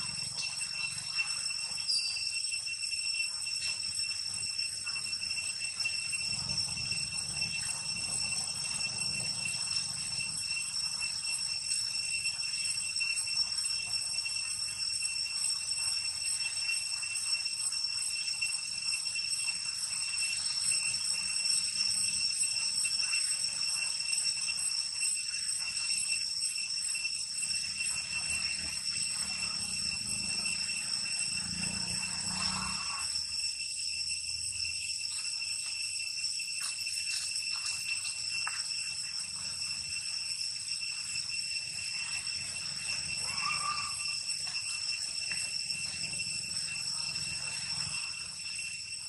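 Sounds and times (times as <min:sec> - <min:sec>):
cicadas droning: 0:00.0 - 0:49.0.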